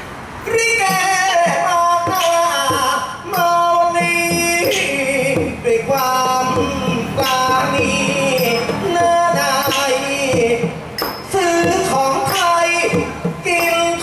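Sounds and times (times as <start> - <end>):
person singing into microphone: 0.4 - 14.0
musical accompaniment: 0.9 - 14.0.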